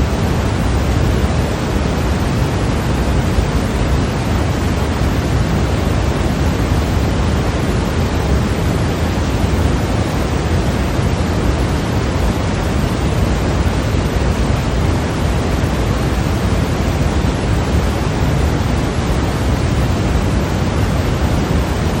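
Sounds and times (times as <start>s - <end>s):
white noise hiss: 0.0s - 22.0s.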